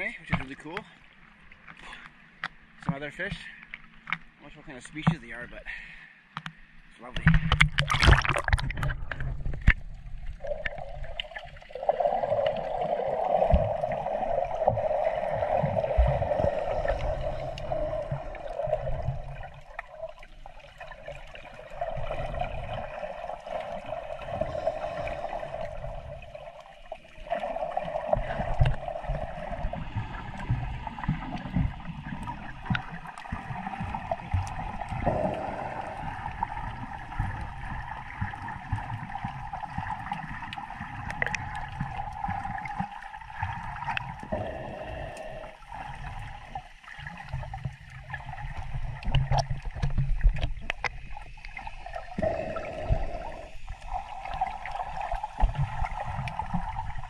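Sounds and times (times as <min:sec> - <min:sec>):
underwater gurgling and sloshing: 0:00.0 - 0:57.0.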